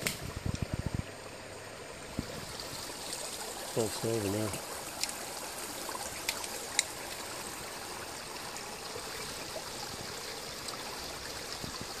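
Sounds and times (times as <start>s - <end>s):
running water hissing: 0.0s - 12.0s.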